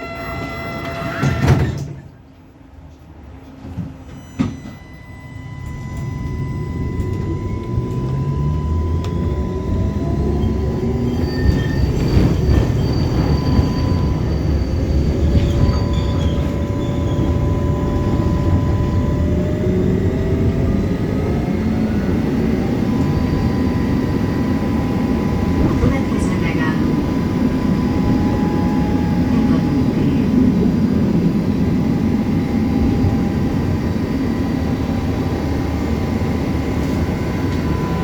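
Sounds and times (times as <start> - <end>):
tram motor whine rising: 0.0 - 38.0
tram wheels rumbling on rails: 0.0 - 38.0.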